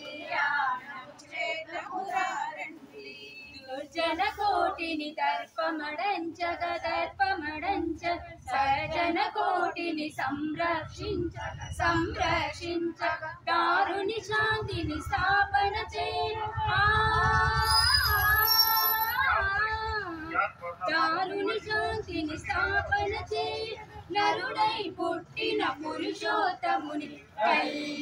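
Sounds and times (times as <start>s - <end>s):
women singing together: 0.0s - 28.0s.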